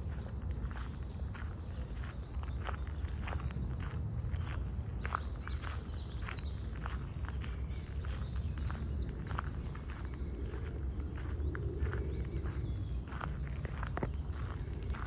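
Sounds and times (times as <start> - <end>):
footsteps on a path: 0.0 - 15.0
steady low rumble: 2.8 - 15.0.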